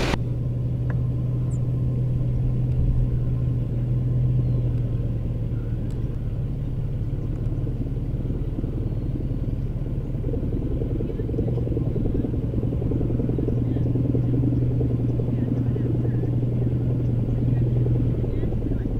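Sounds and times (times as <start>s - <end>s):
low engine rumble: 0.0s - 18.9s
low hum: 0.0s - 18.9s.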